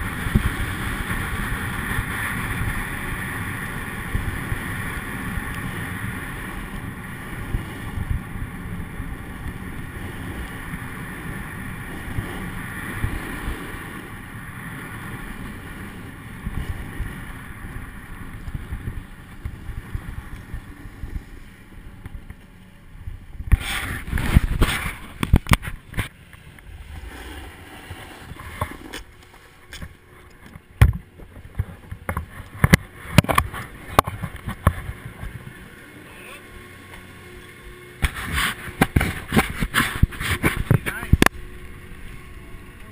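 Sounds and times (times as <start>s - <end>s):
wind on microphone: 0.0s - 36.2s, 37.6s - 42.9s
snowboard scraping over snow: 0.0s - 36.4s, 37.2s - 42.9s.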